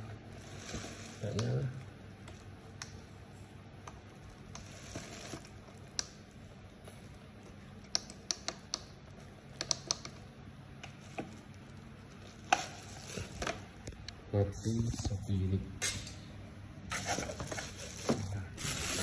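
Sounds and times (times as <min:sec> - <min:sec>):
faint background hum: 0:00.0 - 0:19.0.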